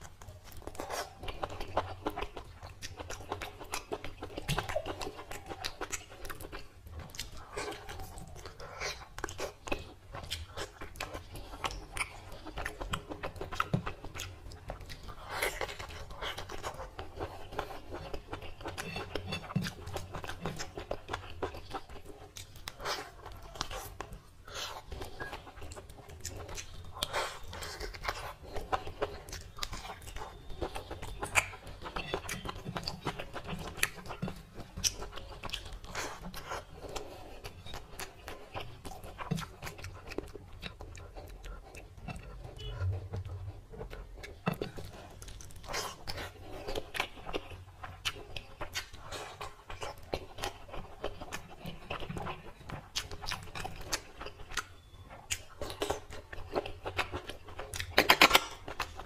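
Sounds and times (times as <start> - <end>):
person chewing with wet mouth sounds: 0.0 - 59.0.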